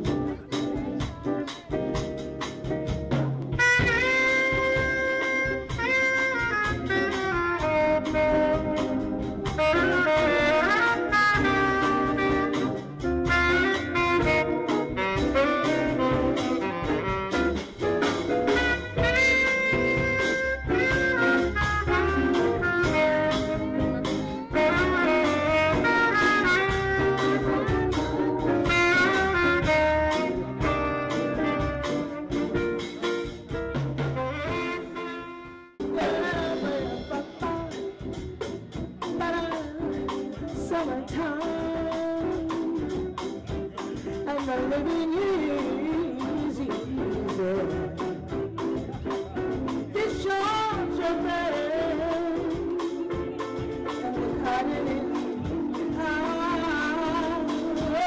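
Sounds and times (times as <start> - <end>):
jazz band playing: 0.0 - 58.0
saxophone melody: 3.5 - 46.2, 50.0 - 58.0.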